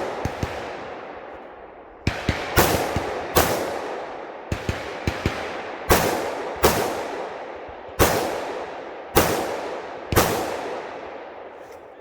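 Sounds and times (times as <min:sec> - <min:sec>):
rifle shots with echo: 0:00.0 - 0:12.0.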